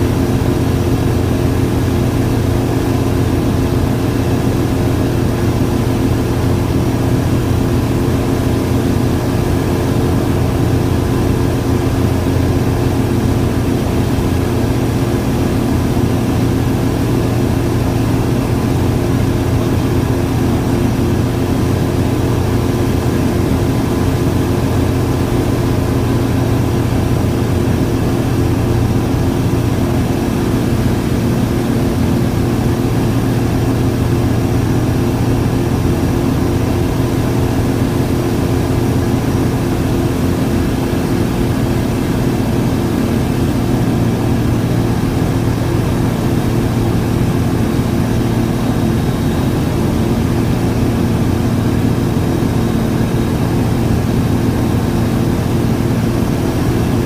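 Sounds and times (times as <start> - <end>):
aircraft engine hum in cabin: 0.0 - 57.0.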